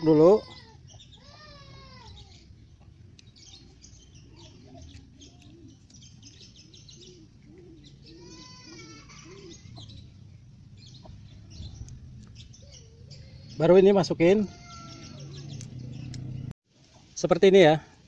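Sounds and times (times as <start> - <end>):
drawn-out bird call: 0.0 - 16.5
faint bird chirping: 0.0 - 17.2.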